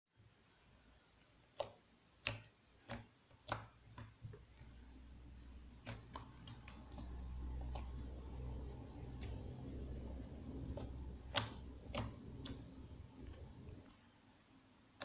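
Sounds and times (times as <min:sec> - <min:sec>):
slime handling noise: 0:01.4 - 0:14.0.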